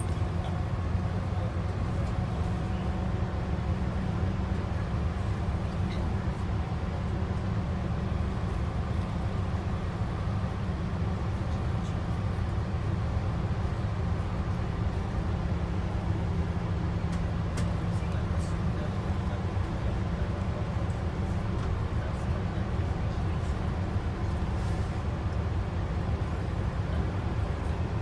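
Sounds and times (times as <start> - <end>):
bus engine rumble and road noise: 0.0 - 28.0.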